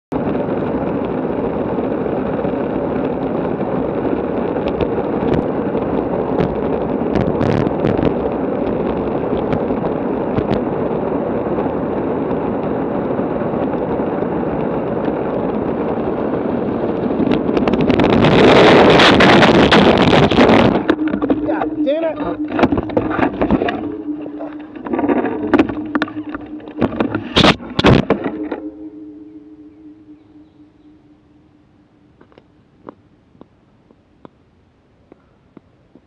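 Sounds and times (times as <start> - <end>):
wind rushing on microphone: 0.1 - 33.5.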